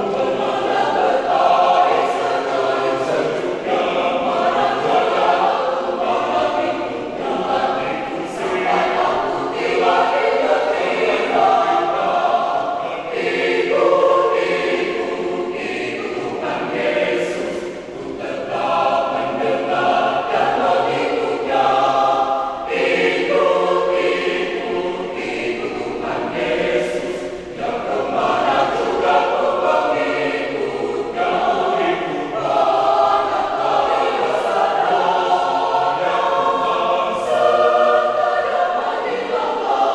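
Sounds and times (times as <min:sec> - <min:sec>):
church choir singing a hymn: 0:00.0 - 0:39.9.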